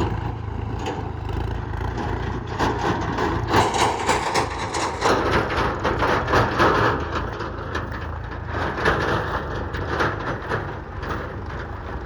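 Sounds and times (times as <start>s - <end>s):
diesel engine running: 0.0s - 12.0s
loud crackling clatter: 1.4s - 11.7s.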